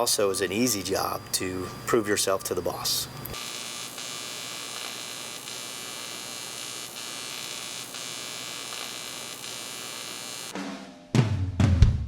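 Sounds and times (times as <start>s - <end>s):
electrical hum: 0.0s - 10.5s.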